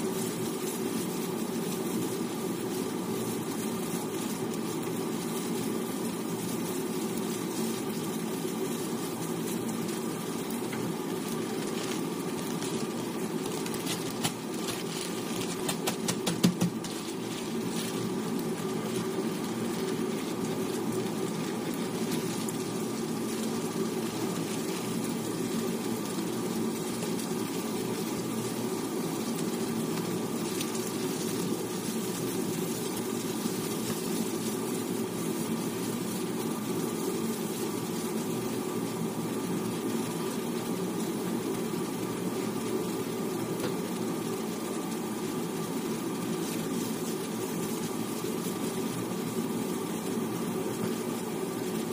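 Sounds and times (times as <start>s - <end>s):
constant low hum: 0.0s - 51.9s
meat and vegetables sizzling: 0.0s - 51.9s.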